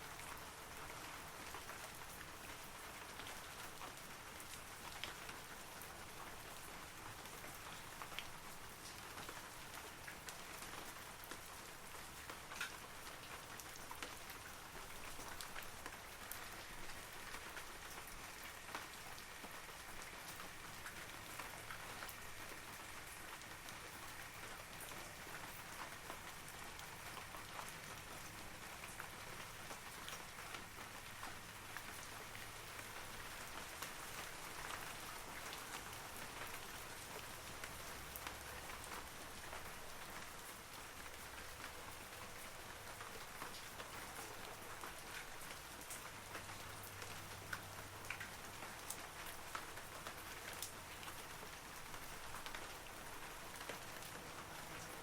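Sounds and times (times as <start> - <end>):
rain falling on trees: 0.0 - 55.0.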